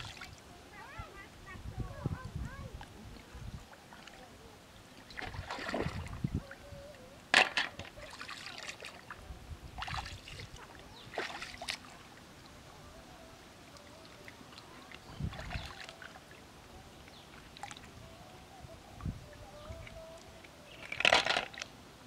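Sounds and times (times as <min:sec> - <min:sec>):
river water splashing: 0:00.0 - 0:00.9, 0:02.8 - 0:22.0.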